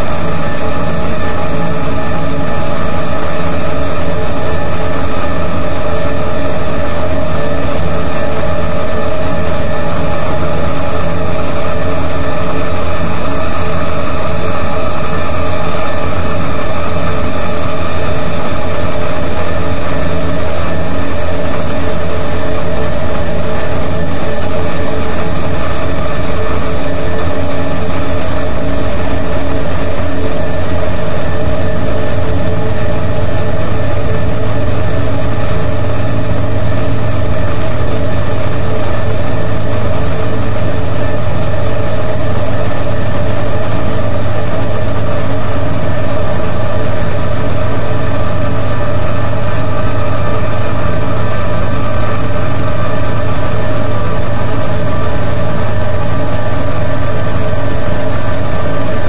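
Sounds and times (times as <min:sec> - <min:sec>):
electronic noise music: 0:00.0 - 0:59.0
low hum: 0:00.0 - 0:59.0.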